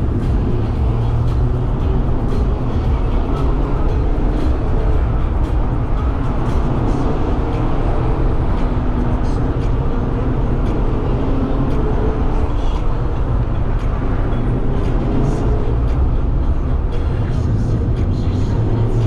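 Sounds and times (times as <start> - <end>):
car tyre and engine noise: 0.0 - 19.0.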